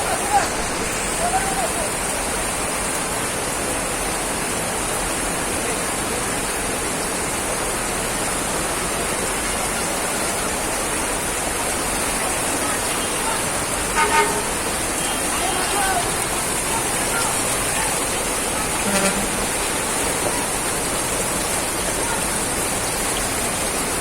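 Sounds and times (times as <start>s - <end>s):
mudflow rushing down channel: 0.0s - 24.0s.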